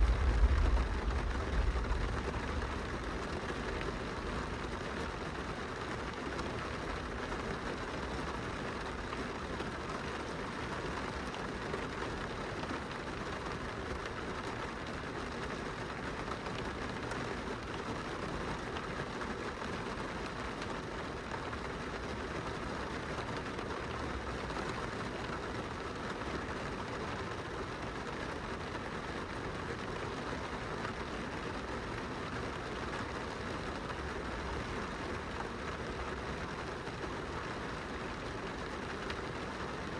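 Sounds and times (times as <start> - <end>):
rain on a glass window: 0.0 - 39.9.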